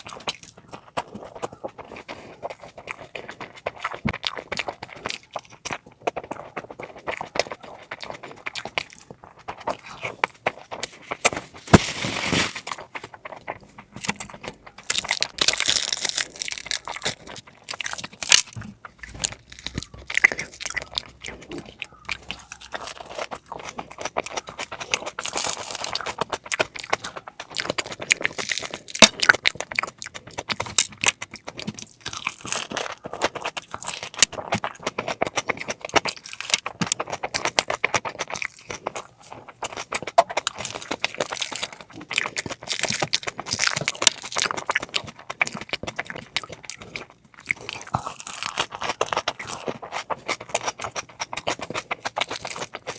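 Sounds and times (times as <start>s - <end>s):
person chewing and crunching food: 0.0s - 52.9s.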